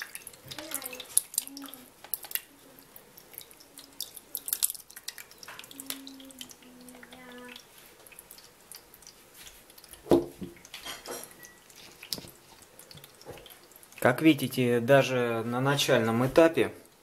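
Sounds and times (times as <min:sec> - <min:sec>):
curd dripping and splashing: 0:00.0 - 0:17.0.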